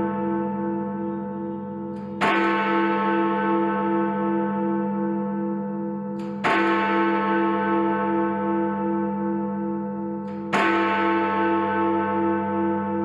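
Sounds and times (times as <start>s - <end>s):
large bell striking: 0.0s - 13.0s.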